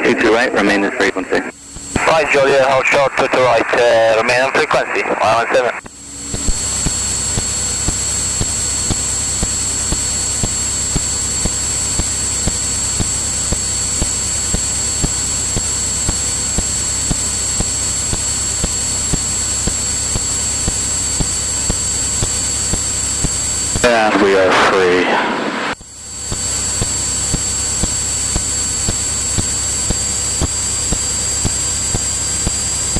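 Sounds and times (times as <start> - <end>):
aircraft engine and propeller: 0.0 - 2.8, 5.8 - 32.9
thin high whine: 0.0 - 32.9.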